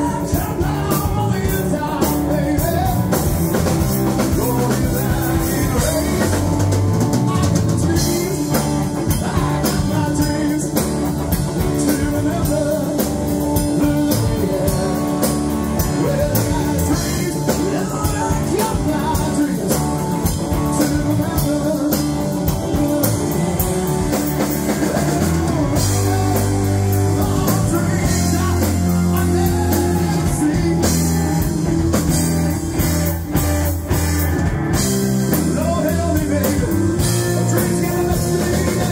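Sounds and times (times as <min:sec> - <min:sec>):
man singing: 0:00.0 - 0:33.4, 0:35.2 - 0:38.9
bass guitar: 0:00.0 - 0:38.9
drum kit: 0:00.0 - 0:38.9
electric guitars: 0:00.0 - 0:38.9.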